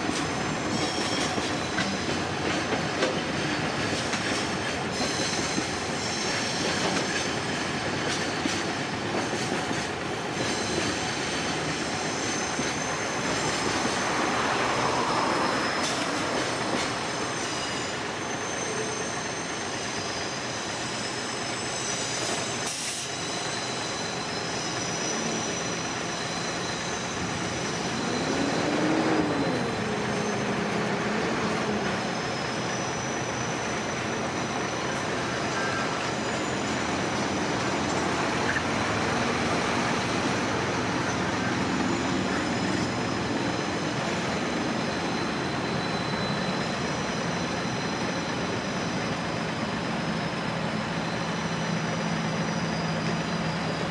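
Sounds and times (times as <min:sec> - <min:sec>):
freight train wagons rumbling: 0:00.0 - 0:53.9
high-pitched wheel squeals: 0:00.4 - 0:09.5, 0:10.4 - 0:53.9.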